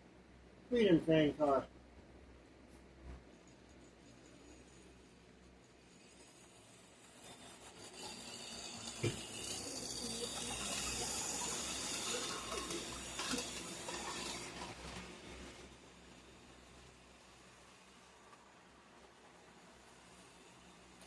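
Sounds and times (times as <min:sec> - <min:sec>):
model train rushing hiss: 0:04.0 - 0:21.0.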